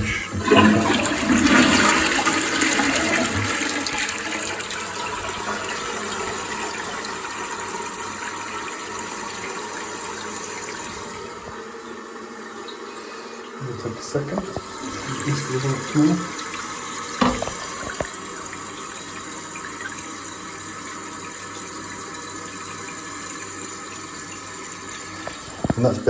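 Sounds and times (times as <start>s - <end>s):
toilet flushing: 0.0s - 26.0s.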